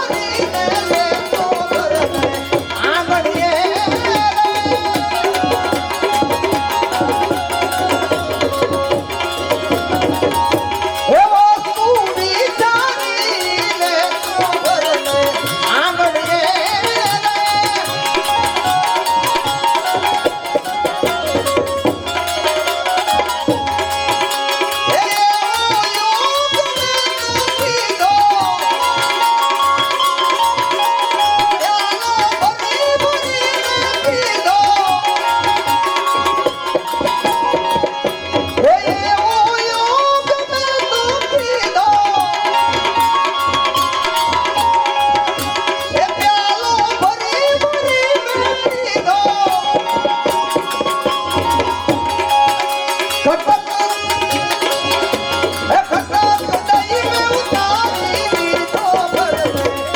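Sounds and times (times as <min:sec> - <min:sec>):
devotional folk music: 0:00.0 - 0:59.9
tabla rhythm: 0:00.0 - 0:59.9.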